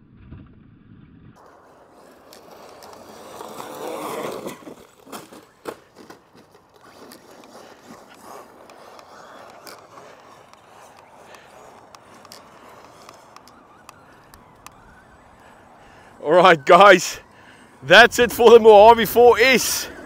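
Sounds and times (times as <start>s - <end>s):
crunching on gravel: 1.4s - 20.0s.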